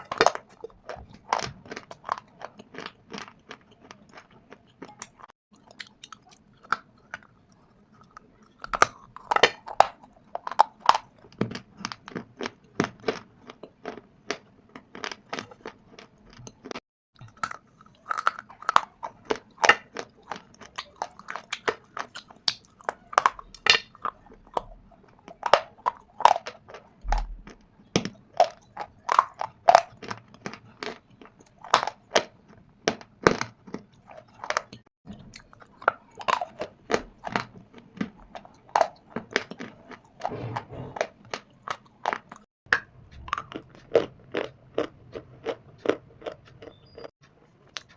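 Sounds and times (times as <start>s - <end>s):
chewing crunches: 0.0s - 47.9s.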